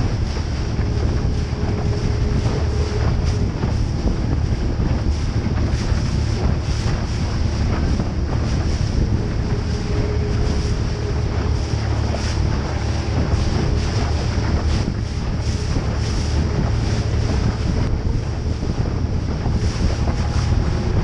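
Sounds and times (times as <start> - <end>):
low rumble: 0.0 - 21.0
water splashing against hull: 0.0 - 21.0
wind buffeting microphone: 0.0 - 21.0.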